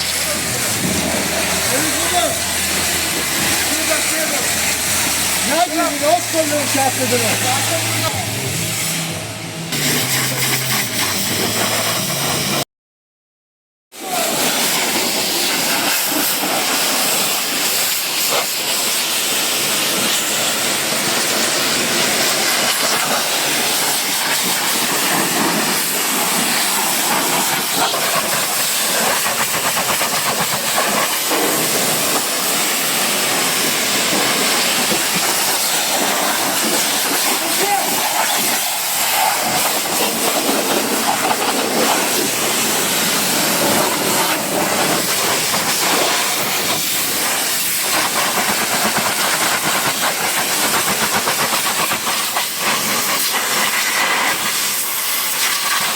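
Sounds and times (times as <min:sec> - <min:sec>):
pressure washer spray hissing: 0:00.0 - 0:12.6, 0:14.0 - 0:55.9.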